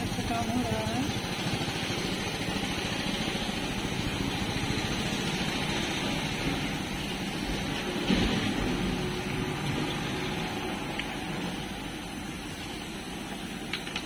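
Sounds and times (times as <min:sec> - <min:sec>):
engine running with low pulsing: 0:00.0 - 0:14.0.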